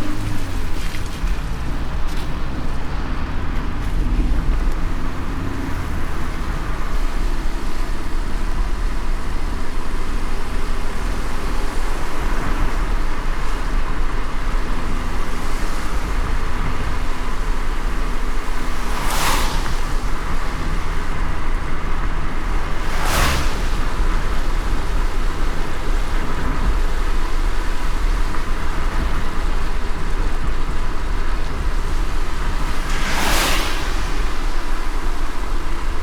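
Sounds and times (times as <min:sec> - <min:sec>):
rain and wet tyres hissing: 0:00.0 - 0:36.0
road rumble: 0:00.0 - 0:36.0.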